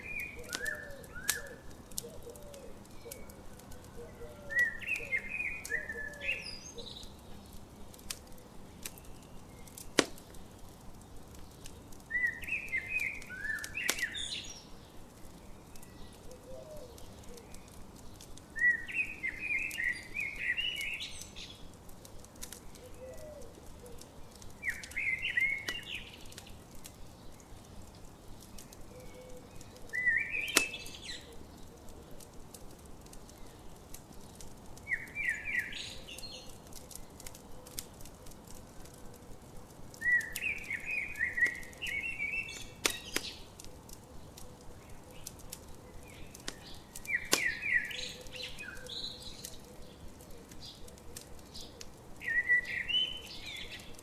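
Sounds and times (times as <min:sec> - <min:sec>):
campfire crackling and popping: 0:00.0 - 0:54.0
songbird chirping: 0:00.0 - 0:54.0.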